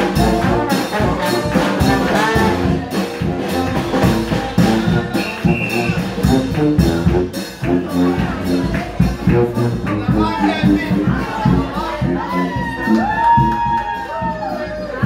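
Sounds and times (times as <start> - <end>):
brass band playing: 0.0 - 15.0
marching drum beat: 0.0 - 15.0.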